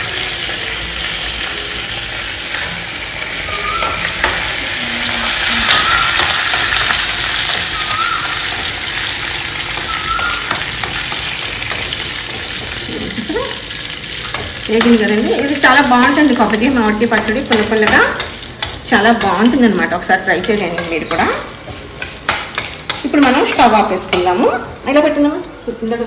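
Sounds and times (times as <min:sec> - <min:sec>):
spices sizzling in hot oil: 0:00.0 - 0:26.0.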